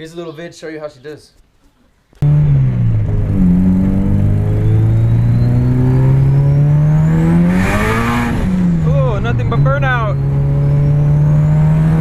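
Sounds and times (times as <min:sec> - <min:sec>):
car engine accelerating: 0:02.2 - 0:12.0.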